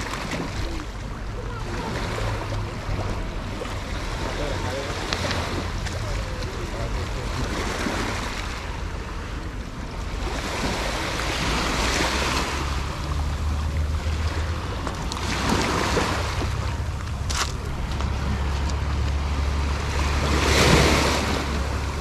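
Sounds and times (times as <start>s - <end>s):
small sea waves washing in: 0.0s - 22.0s.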